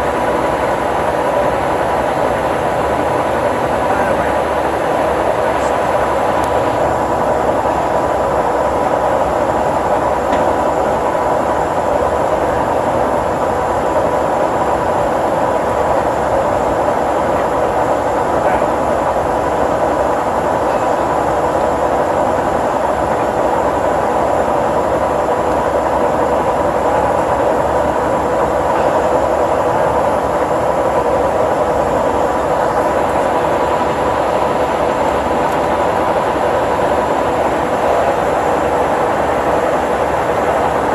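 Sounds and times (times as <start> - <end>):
lathe running with whine: 0.0 - 40.9.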